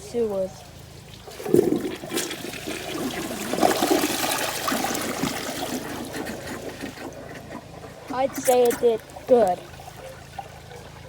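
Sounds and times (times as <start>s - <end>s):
toilet flushing: 0.7s - 11.0s.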